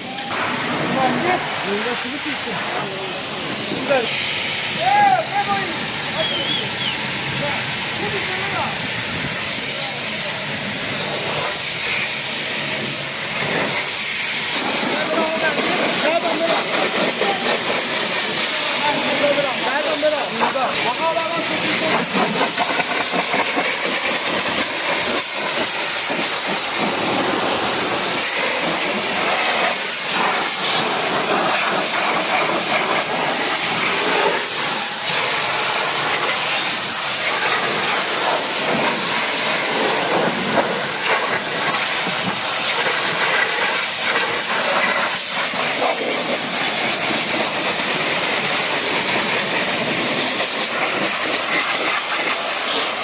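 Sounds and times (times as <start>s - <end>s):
pressure washer spraying water: 0.0s - 53.0s.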